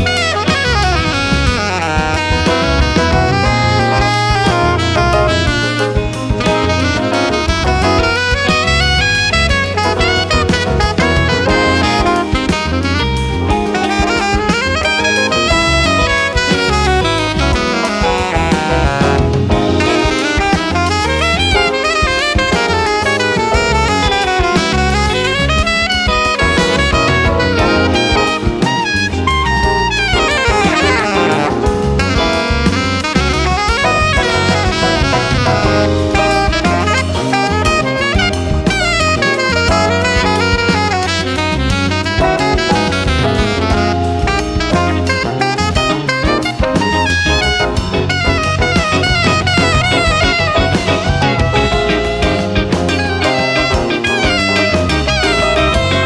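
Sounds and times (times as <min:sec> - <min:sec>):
bass: 0:00.0 - 0:56.0
drum kit: 0:00.0 - 0:56.0
guitar: 0:00.0 - 0:56.0
piano: 0:00.0 - 0:56.0
saxophone: 0:00.0 - 0:56.0.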